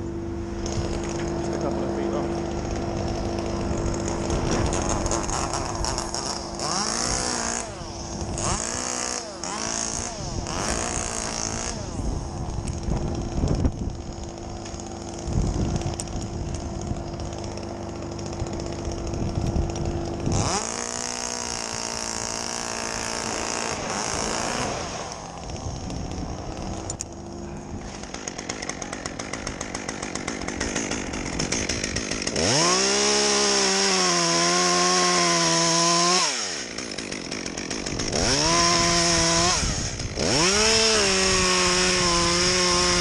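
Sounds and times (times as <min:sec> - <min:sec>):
chainsaw idling and revving: 0:00.0 - 0:43.0.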